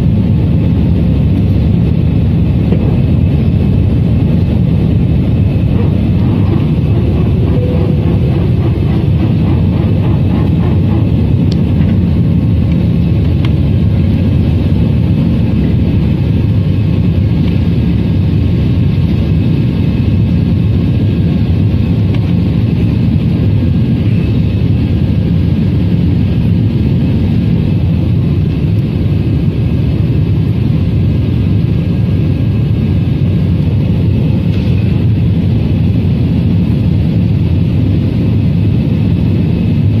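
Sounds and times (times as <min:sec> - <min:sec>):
jet cabin roar: 0:00.0 - 0:40.0.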